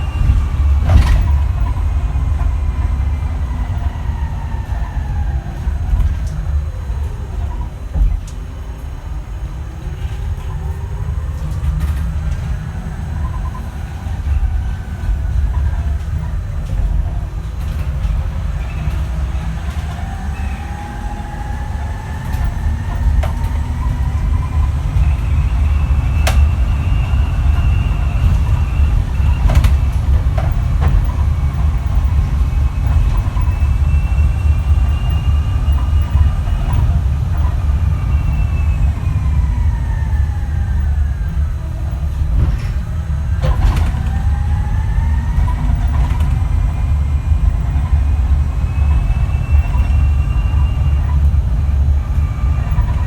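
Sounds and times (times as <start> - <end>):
electric bus drive whine: 0.0 - 53.0
heavy low rumble: 0.0 - 53.0.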